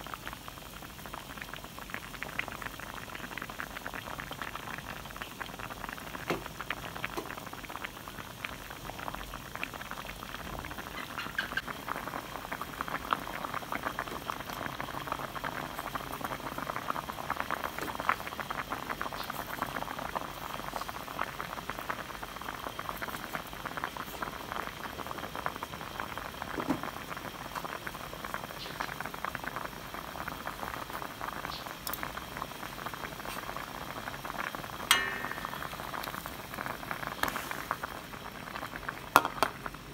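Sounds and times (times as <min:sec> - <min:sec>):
liquid bubbling in a pot: 0:00.0 - 0:39.9.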